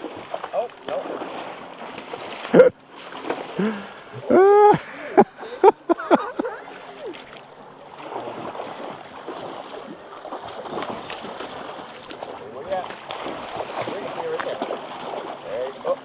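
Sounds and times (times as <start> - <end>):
fish splashing in water: 0.0 - 4.3, 6.4 - 16.0.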